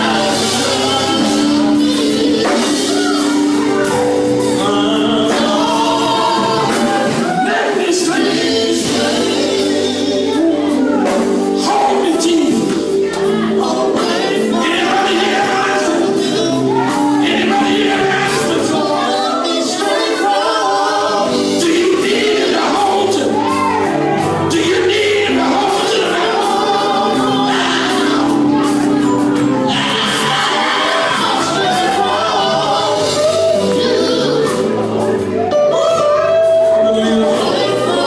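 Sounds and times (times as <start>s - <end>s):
group singing gospel in harmony: 0.0s - 38.0s
live band accompaniment: 0.0s - 38.0s.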